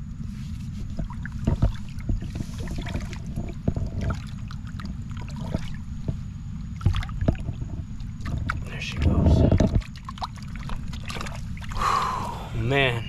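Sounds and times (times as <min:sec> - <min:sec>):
steady low rumble: 0:00.0 - 0:13.0
water sloshing and splashing: 0:00.1 - 0:13.0.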